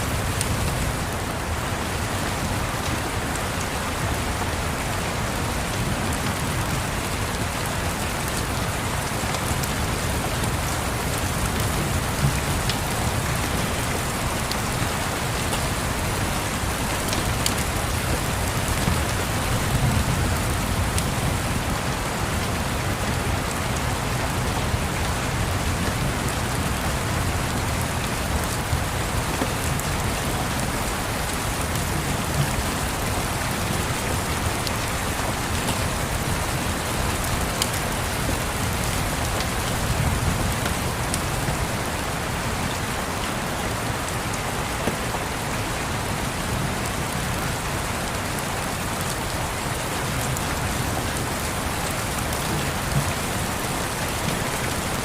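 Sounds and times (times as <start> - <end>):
steady rain tapping: 0.0 - 55.0.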